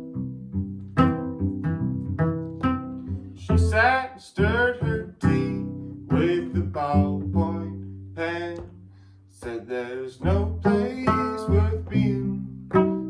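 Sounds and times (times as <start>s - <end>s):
plucked acoustic guitar: 0.0s - 8.8s, 9.4s - 13.0s
sliding bending guitar notes: 0.0s - 8.8s, 10.2s - 13.0s.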